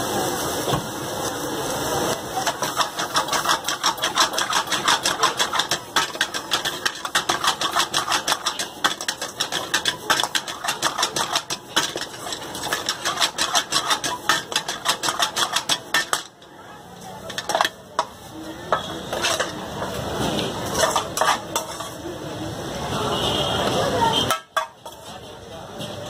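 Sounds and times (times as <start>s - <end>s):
ladle scraping a wok: 2.1s - 22.2s, 24.2s - 26.0s.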